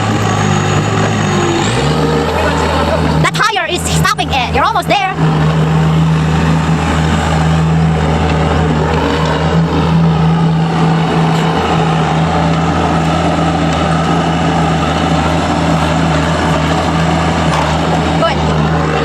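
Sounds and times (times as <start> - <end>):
heavy engine running steadily: 0.0 - 19.0.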